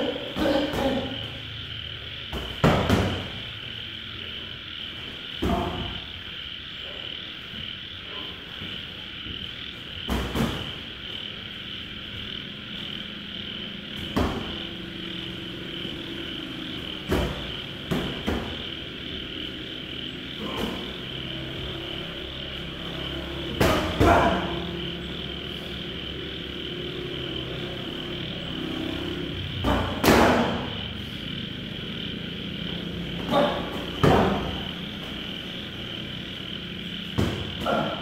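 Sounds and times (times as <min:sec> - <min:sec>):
night insects chorus: 0:00.0 - 0:38.0.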